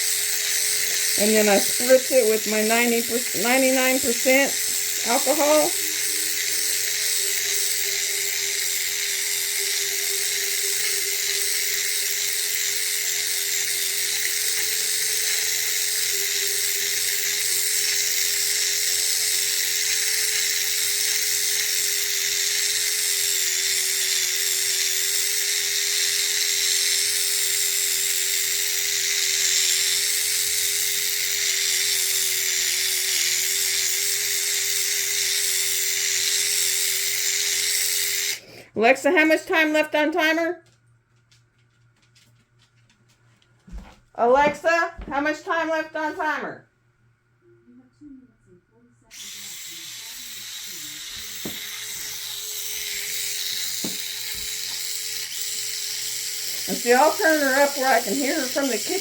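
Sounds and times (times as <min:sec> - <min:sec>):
small electric motor whining: 0:00.0 - 0:38.4, 0:49.1 - 0:59.0.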